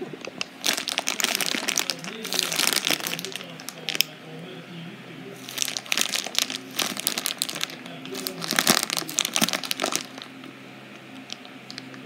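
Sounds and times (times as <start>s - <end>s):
plastic bag crinkling: 0.4s - 4.2s, 5.4s - 10.5s, 11.1s - 12.0s.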